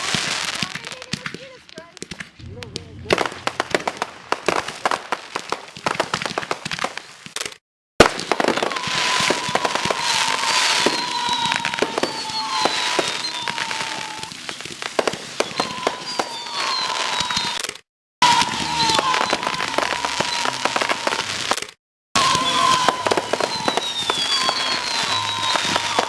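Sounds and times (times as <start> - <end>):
firework bang: 0.0 - 26.0
fireworks pops and crackles: 0.0 - 26.0
fireworks whistling: 0.0 - 26.0.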